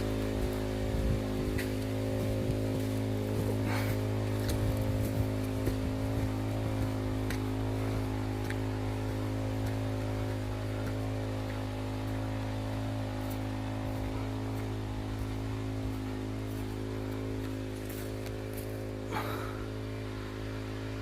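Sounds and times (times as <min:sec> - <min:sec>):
water pump engine humming: 0:00.0 - 0:21.0.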